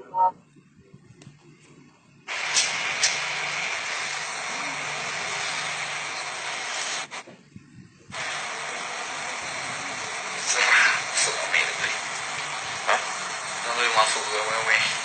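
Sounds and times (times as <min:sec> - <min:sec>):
steady hiss: 0:01.2 - 0:15.0.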